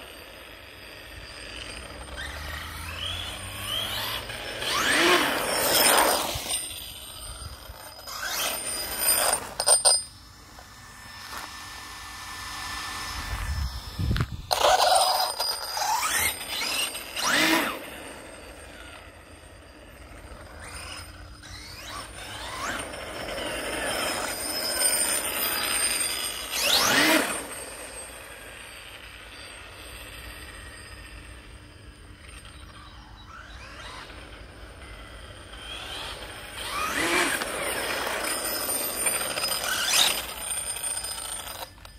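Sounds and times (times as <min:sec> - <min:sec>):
rc car motor whine: 0:00.0 - 0:41.9.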